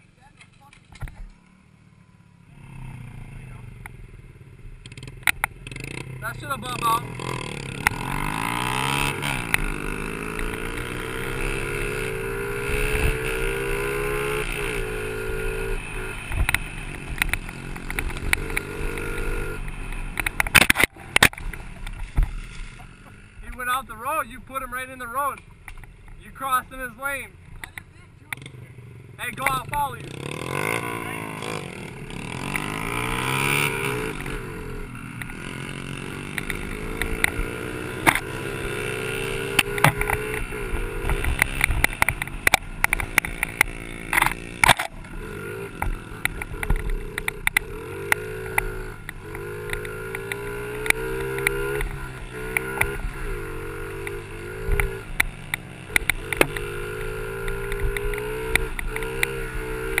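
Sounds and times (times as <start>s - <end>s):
minibike engine revving: 0.0s - 60.0s.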